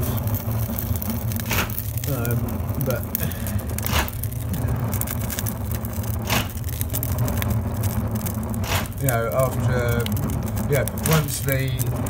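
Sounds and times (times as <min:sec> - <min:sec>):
heater burning low rumble: 0:00.0 - 0:12.0
multi-tool rattling rush: 0:00.0 - 0:12.0.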